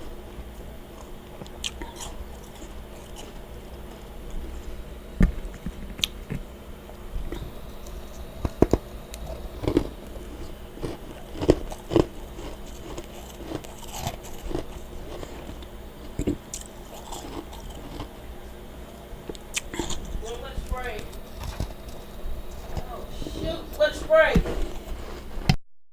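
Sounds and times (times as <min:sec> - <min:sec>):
low background hum: 0:00.0 - 0:25.6
person chewing crunchy frost: 0:00.0 - 0:25.6.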